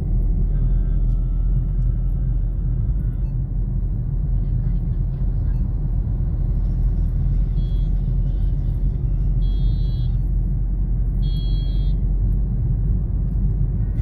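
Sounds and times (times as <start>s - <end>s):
vehicle rumbling on road: 0.0s - 14.0s.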